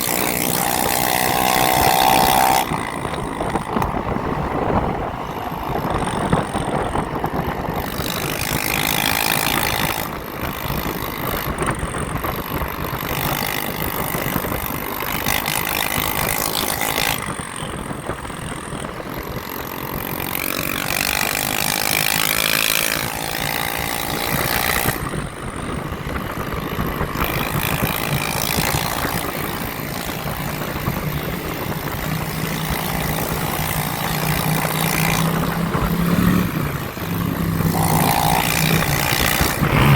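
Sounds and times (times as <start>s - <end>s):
motor vehicles passing: 0.0s - 39.9s
wind and road noise: 0.0s - 39.9s.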